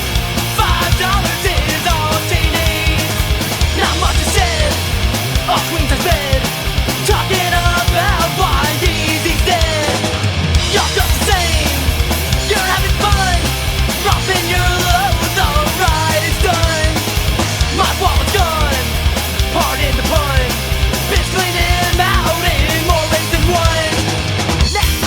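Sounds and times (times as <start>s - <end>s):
punk rock band playing: 0.0s - 25.0s.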